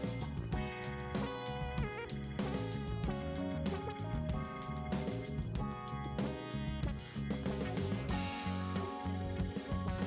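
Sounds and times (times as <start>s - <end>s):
guitar background music: 0.0s - 10.0s.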